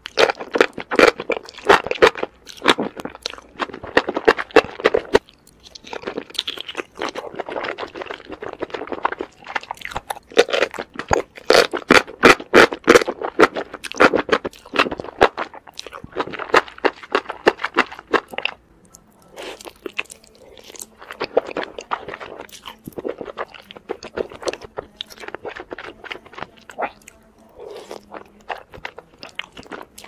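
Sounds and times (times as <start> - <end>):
chewing with wet crunches: 0.0 - 30.0.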